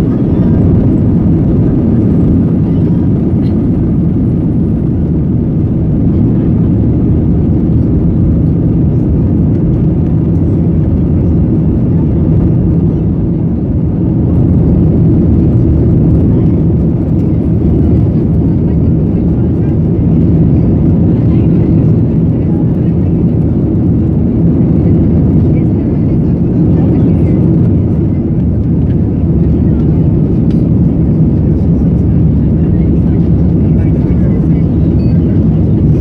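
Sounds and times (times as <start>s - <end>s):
jet engines rumbling in cabin: 0.0s - 36.0s.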